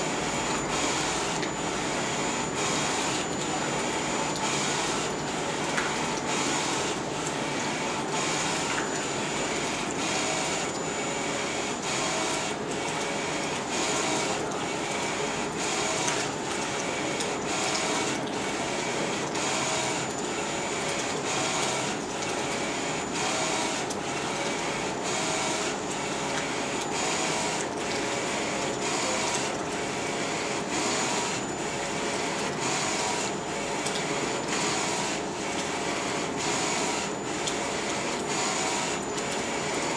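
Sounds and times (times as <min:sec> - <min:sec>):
printer carriage whirring: 0:00.0 - 0:39.9.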